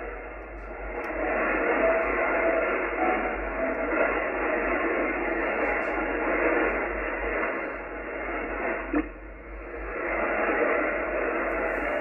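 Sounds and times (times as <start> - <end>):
thin noisy shortwave radio broadcast: 0.0 - 12.0.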